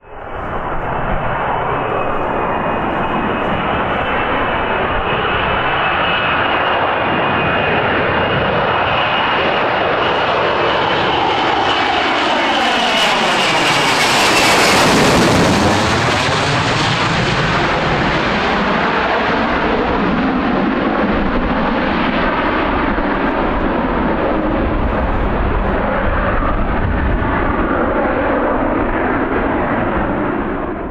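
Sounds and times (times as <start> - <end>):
jet flying past: 0.0 - 30.9.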